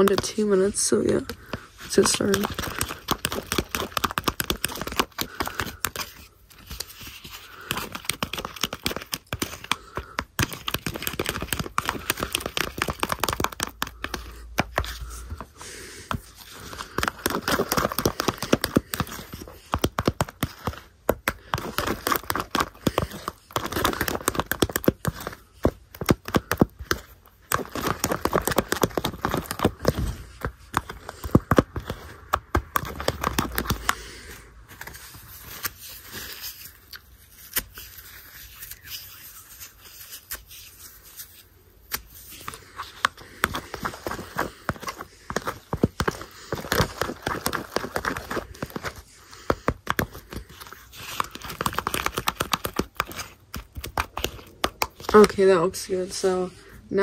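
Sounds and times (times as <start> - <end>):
spoon stirring slime crackling: 0.0 - 57.0.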